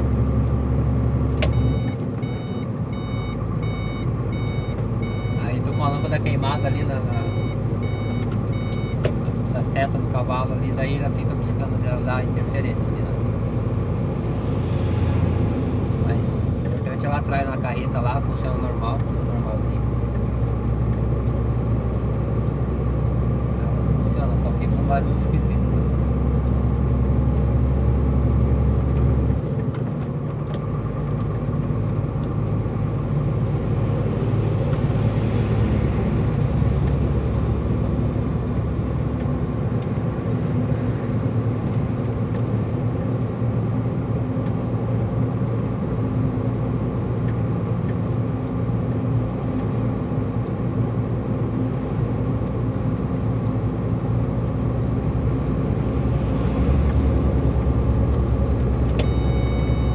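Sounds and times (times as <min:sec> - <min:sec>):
truck engine drone under load: 0:00.0 - 0:59.9.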